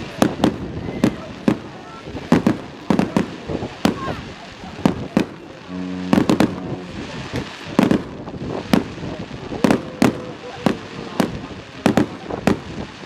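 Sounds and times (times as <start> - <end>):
background rumble: 0.0 - 13.0
firework bangs: 0.0 - 13.0.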